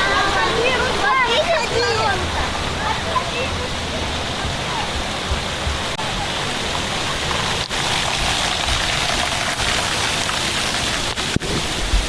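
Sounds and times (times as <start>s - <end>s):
falling and splashing water: 0.0s - 12.0s.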